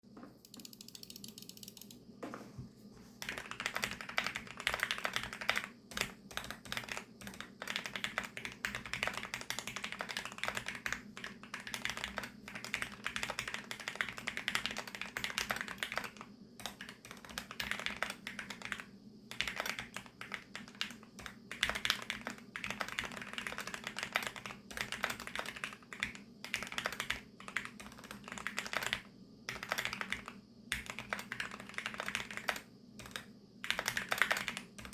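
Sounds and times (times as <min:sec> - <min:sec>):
mechanical keyboard typing: 0:00.4 - 0:02.0, 0:03.2 - 0:34.9.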